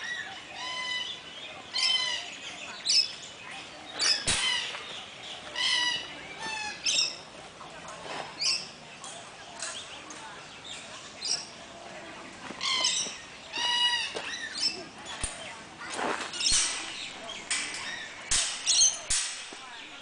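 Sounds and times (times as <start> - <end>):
birds squawking and chirping: 0.0 - 20.0.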